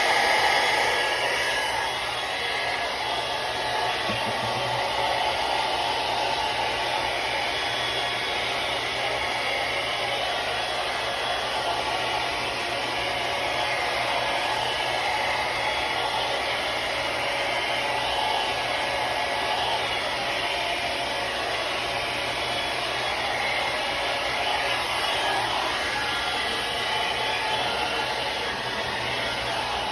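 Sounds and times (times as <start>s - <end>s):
hair dryer running: 0.0s - 29.9s.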